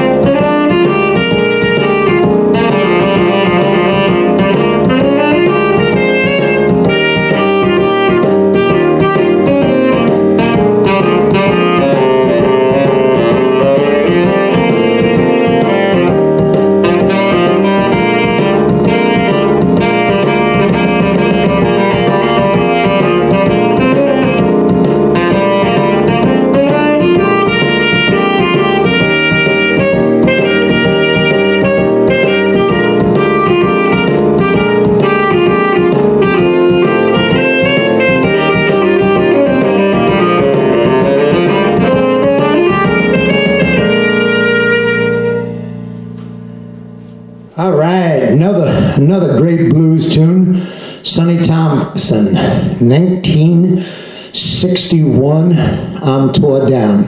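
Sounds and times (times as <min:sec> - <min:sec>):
drums: 0:00.0 - 0:46.4
tenor saxophone blues line: 0:00.0 - 0:57.0.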